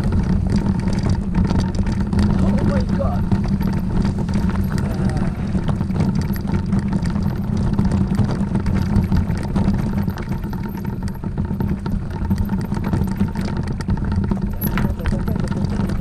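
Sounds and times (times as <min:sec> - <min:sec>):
knocks and rattles: 0:00.0 - 0:16.0
vehicle engine rumbling: 0:00.0 - 0:16.0.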